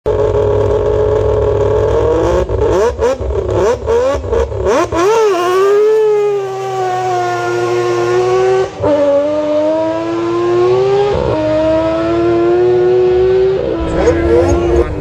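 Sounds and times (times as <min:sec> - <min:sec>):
rotary engine idling and revving: 0:00.1 - 0:15.0.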